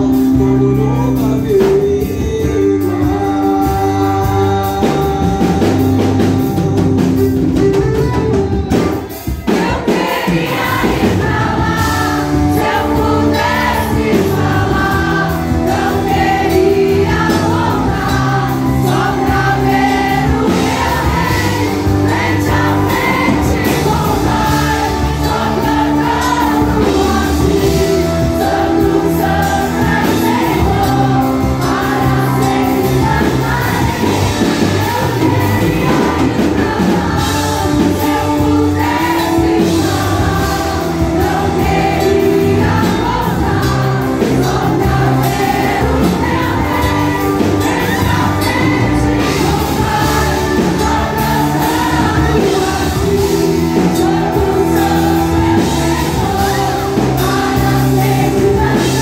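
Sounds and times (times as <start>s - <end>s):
live band playing: 0.0s - 59.0s
choir singing: 8.7s - 59.0s.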